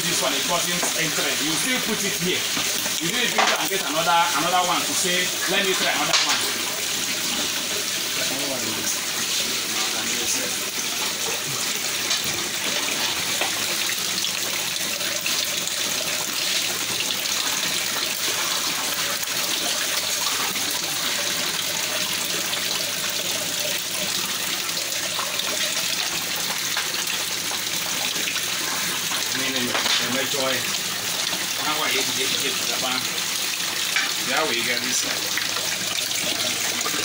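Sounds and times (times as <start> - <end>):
water running into a tank: 0.0 - 37.0.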